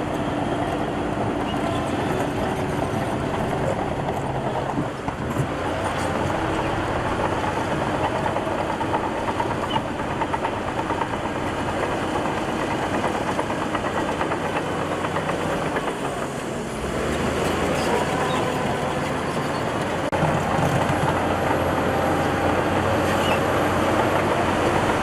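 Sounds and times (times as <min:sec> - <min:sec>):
bulldozer diesel engine: 0:00.0 - 0:25.0
metallic clatter of steel tracks: 0:01.3 - 0:22.5.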